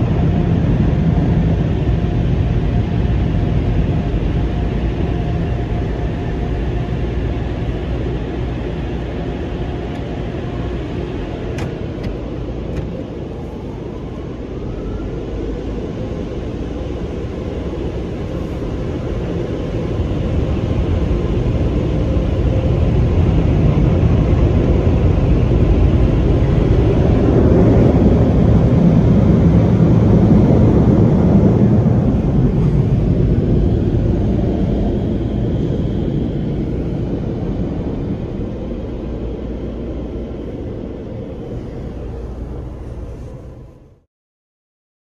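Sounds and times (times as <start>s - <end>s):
car wash dryer blowers rushing: 0.0s - 44.0s.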